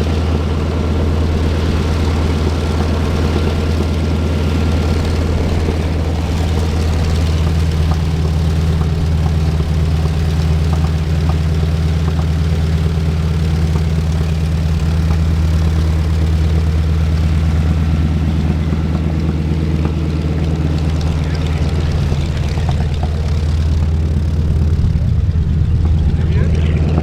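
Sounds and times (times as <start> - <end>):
radial aircraft engine idling: 0.0 - 27.0.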